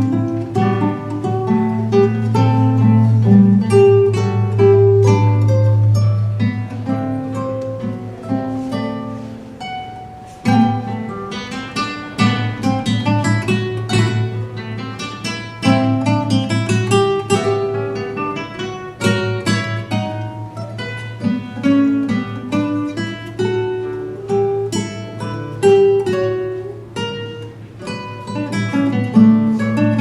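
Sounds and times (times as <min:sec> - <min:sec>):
acoustic guitar plucked notes: 0:00.0 - 0:30.0
acoustic guitar strummed chords: 0:00.0 - 0:30.0.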